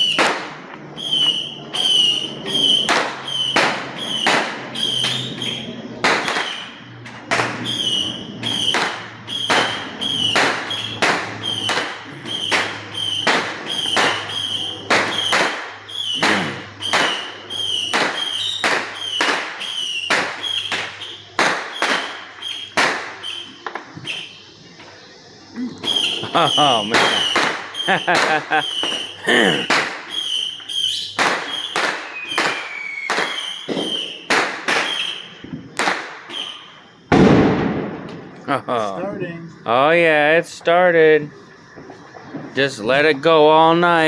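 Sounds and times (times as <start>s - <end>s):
firecrackers banging: 0.0s - 44.0s.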